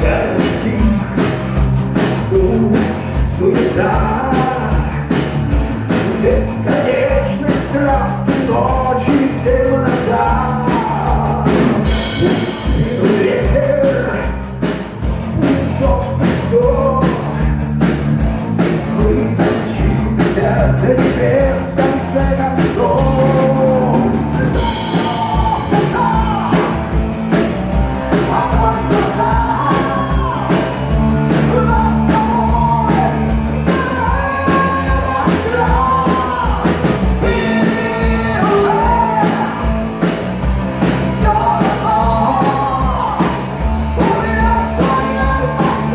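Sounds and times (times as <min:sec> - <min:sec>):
drum kit: 0:00.0 - 0:45.9
live rock band playing: 0:00.0 - 0:45.9
person singing: 0:00.0 - 0:45.9.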